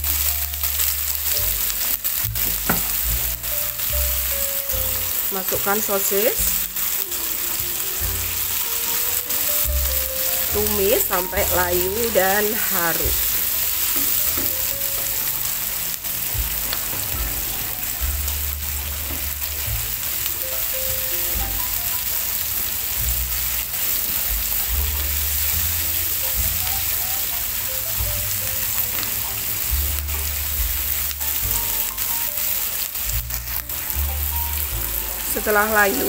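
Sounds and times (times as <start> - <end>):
food sizzling in hot oil: 0.0 - 36.0
spatula stirring in wok: 0.0 - 36.0.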